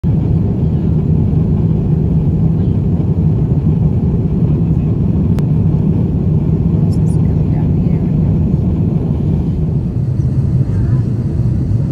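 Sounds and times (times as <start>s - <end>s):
airplane cabin rumble: 0.0s - 11.9s.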